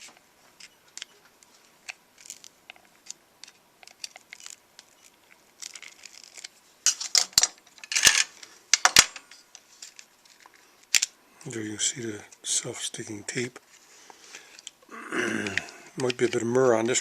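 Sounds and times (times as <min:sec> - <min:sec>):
crackling with sharp snaps: 0:00.0 - 0:17.0.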